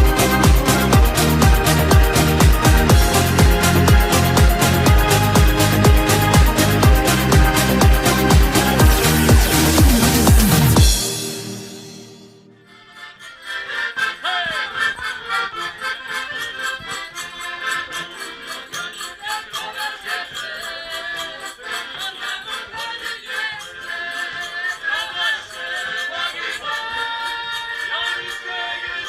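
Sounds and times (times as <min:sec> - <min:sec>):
upbeat background music: 0:00.0 - 0:29.0.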